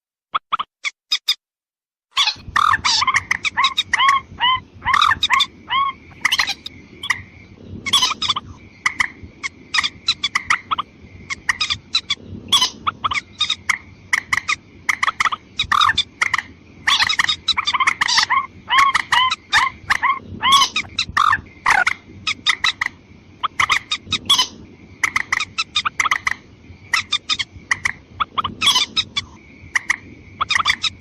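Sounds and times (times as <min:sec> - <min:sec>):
harsh rail bird calls: 0:02.2 - 0:31.0.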